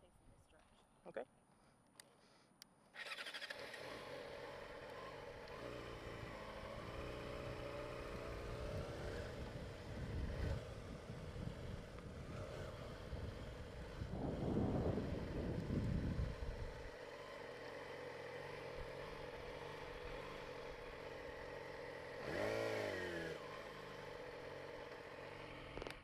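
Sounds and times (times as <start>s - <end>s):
motorcycle engine starting and running: 2.9s - 26.0s.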